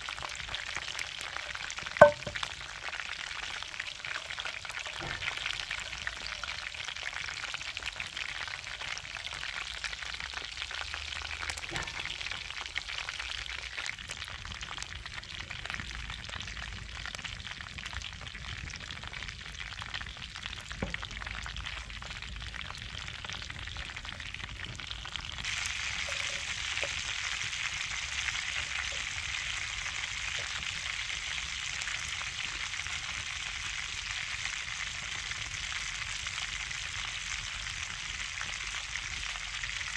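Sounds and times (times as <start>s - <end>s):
meat and butter sizzling in pans: 0.0s - 39.9s
mushrooms frying in butter: 0.0s - 39.9s.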